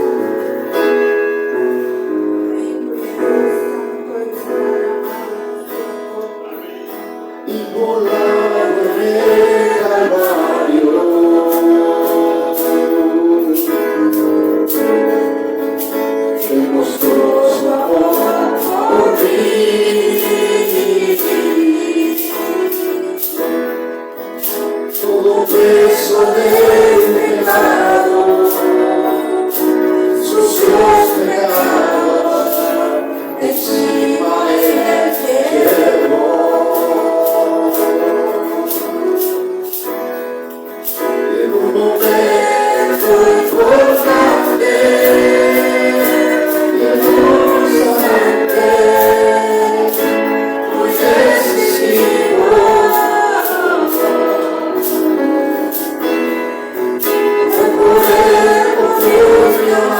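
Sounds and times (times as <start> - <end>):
instrumental accompaniment: 0.0 - 59.9
group singing worship song: 1.8 - 59.9.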